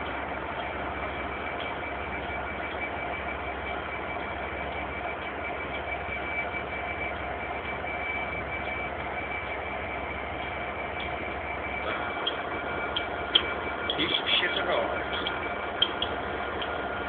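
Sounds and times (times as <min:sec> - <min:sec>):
high whine: 0:00.0 - 0:17.0
train engines idling: 0:00.0 - 0:17.0.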